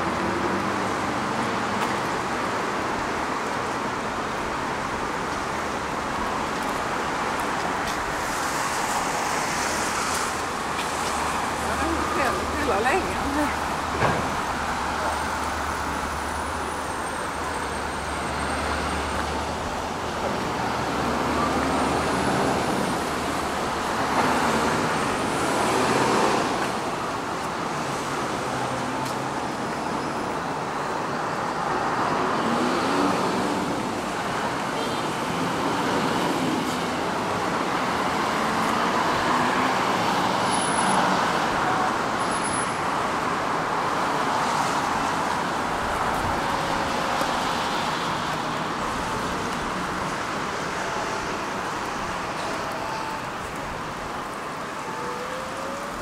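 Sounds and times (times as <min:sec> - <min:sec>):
cars and buses passing: 0:00.0 - 0:56.0.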